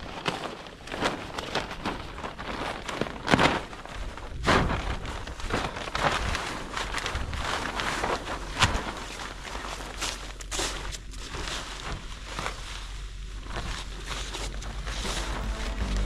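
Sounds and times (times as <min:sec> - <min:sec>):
plastic sheeting crackling and rustling: 0:00.0 - 0:16.0.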